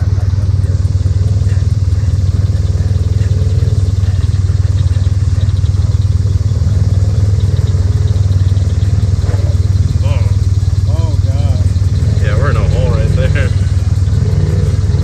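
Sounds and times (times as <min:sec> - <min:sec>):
engine running with low rumble: 0:00.0 - 0:15.0.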